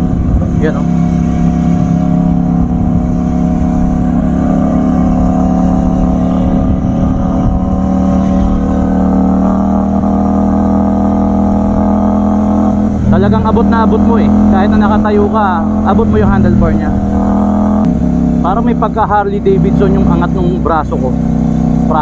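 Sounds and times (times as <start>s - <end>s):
wind rush: 0.0s - 18.5s
motorcycle engine cruising: 0.0s - 22.0s.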